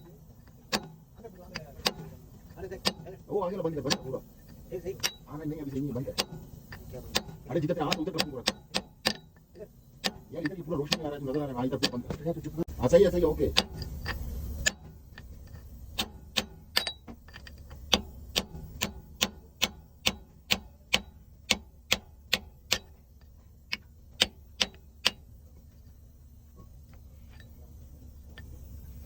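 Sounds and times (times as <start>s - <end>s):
sharp evenly spaced clicks: 0.0s - 29.0s.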